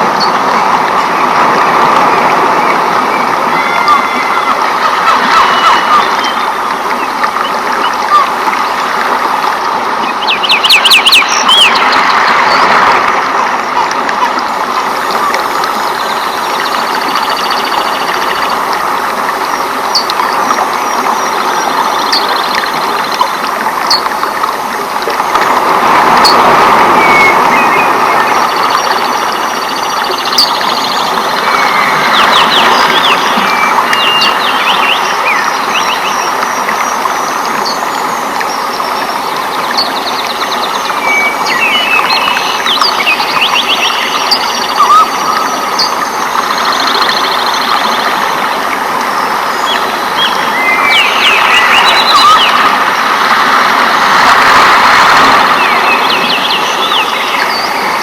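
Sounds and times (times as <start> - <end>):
rain rushing: 0.0 - 58.0
birds chirping and trilling: 0.1 - 8.8, 10.0 - 12.7, 15.0 - 24.2, 27.0 - 52.7, 55.4 - 58.0.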